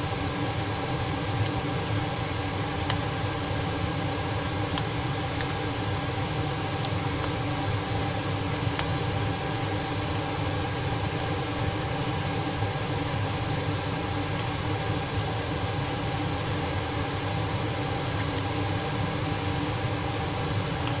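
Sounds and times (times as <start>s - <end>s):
fan whirring hum: 0.0s - 21.0s.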